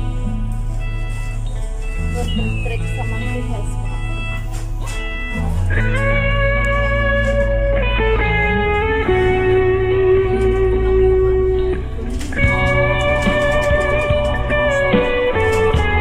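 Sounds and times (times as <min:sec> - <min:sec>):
guitar-led instrumental music: 0:00.0 - 0:16.0
steady bass: 0:00.0 - 0:16.0.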